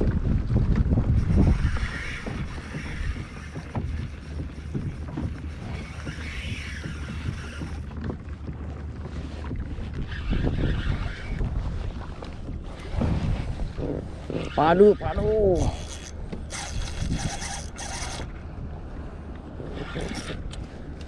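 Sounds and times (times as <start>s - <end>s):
water lapping against kayak hull: 0.0s - 21.0s
wind rumbling on microphone: 0.0s - 21.0s.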